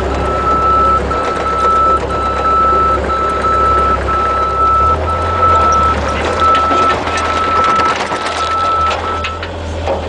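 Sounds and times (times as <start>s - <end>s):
excavator engine running: 0.0s - 10.0s
vehicle warning alarm beeps: 0.1s - 9.4s.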